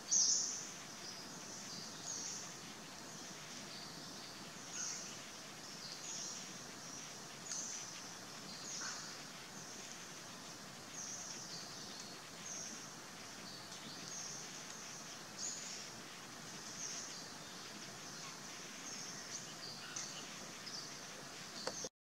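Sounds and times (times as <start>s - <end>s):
steady background hiss: 0.0s - 21.9s.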